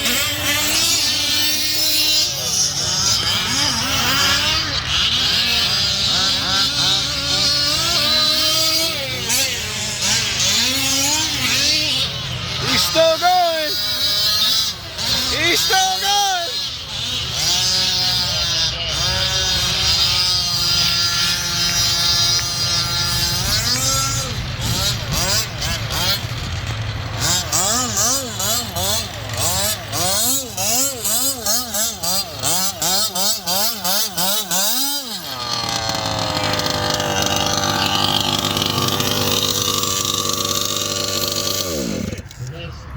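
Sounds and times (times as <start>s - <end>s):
small two-stroke engines revving: 0.0s - 42.9s.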